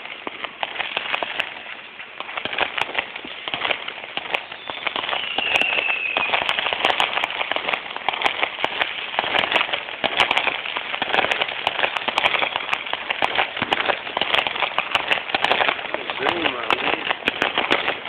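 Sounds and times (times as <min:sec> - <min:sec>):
fireworks crackling: 0:00.0 - 0:18.0
sharper firework pops: 0:00.0 - 0:18.0.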